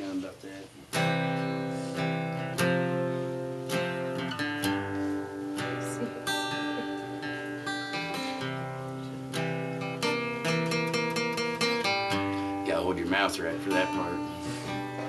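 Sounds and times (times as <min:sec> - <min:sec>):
acoustic guitar strumming chords: 0:00.7 - 0:15.0.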